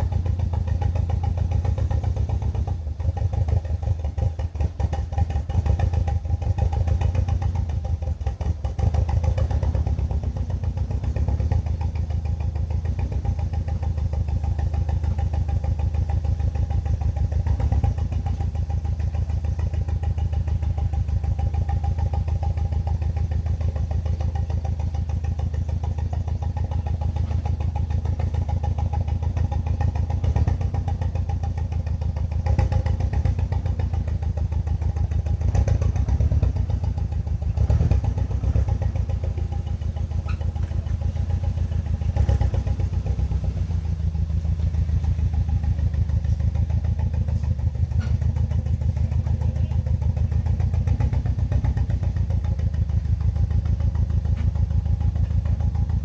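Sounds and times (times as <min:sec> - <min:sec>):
car engine idling with misfire: 0:00.0 - 0:56.0.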